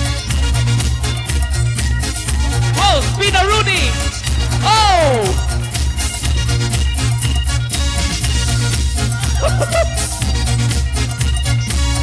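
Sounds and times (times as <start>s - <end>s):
funk music: 0.0s - 12.0s.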